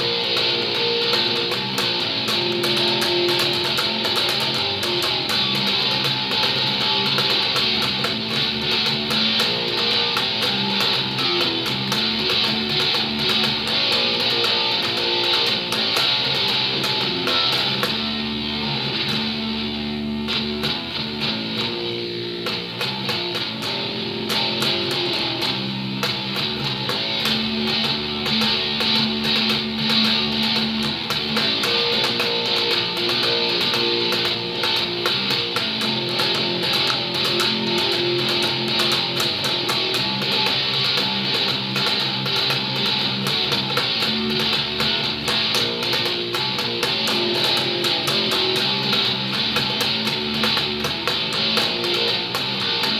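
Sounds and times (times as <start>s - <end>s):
electric bass guitar fingerstyle: 0.0s - 52.9s.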